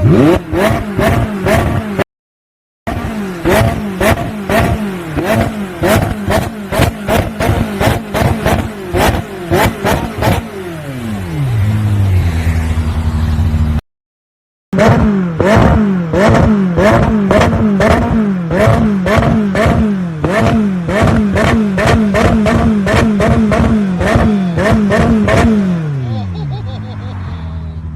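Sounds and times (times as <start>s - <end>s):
car engine revving: 0.0s - 2.0s, 2.9s - 13.8s, 14.8s - 27.4s.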